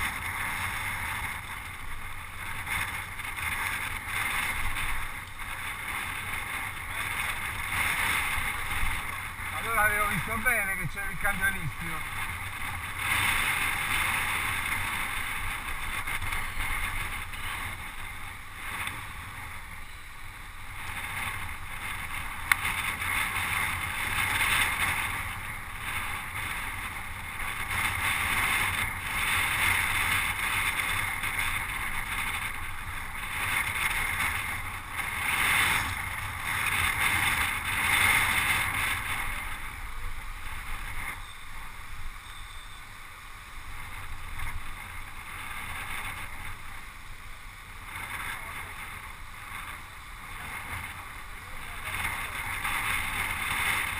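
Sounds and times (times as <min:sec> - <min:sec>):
road rumble: 0:00.0 - 0:53.9
wind rushing over microphone: 0:00.0 - 0:53.9.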